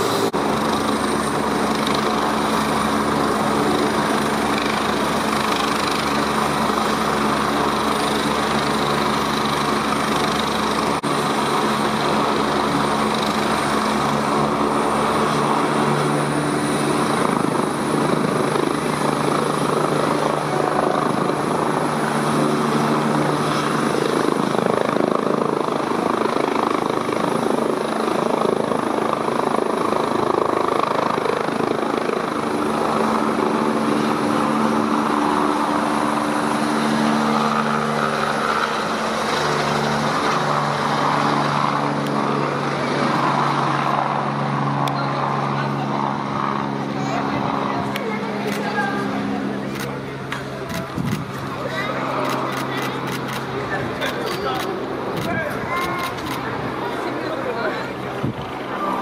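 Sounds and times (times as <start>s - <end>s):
helicopter rotor noise: 0.0s - 59.0s
helicopter turbine whine: 0.0s - 59.0s.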